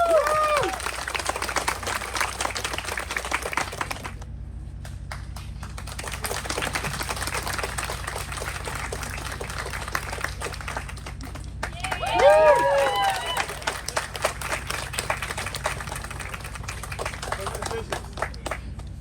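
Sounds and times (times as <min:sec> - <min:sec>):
audience applauding: 0:00.0 - 0:04.3, 0:04.9 - 0:19.0
low steady hum: 0:00.0 - 0:19.0.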